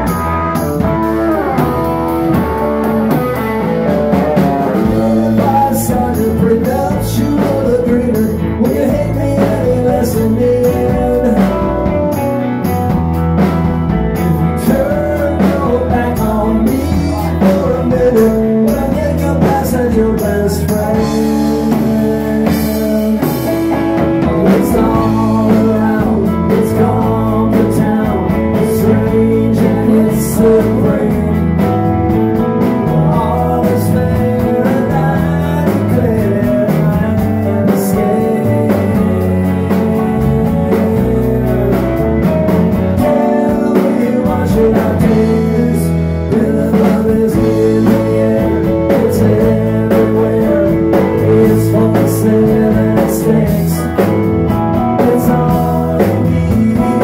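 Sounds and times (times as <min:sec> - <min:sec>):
lead vocal singing: 0:00.0 - 0:13.5, 0:14.1 - 0:57.0
bass guitar: 0:00.0 - 0:57.0
drum kit: 0:00.0 - 0:57.0
electric guitars: 0:00.0 - 0:57.0.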